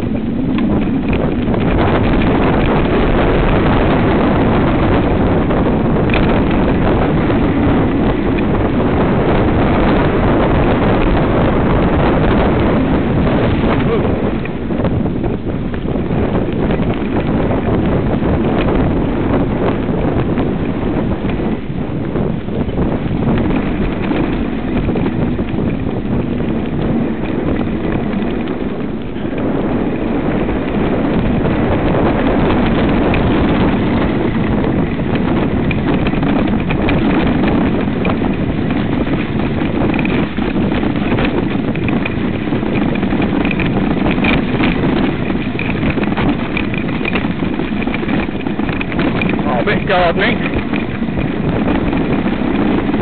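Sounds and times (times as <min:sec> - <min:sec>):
bike clattering and rattling: 0:00.0 - 0:53.0
tyres rumbling on dirt: 0:00.0 - 0:53.0
wind on microphone: 0:00.0 - 0:53.0.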